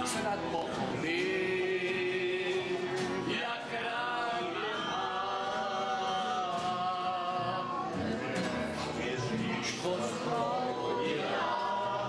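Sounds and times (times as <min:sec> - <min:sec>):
acoustic guitars: 0:00.0 - 0:12.0
mandolin: 0:00.0 - 0:12.0
group singing in chorus: 0:00.6 - 0:12.0.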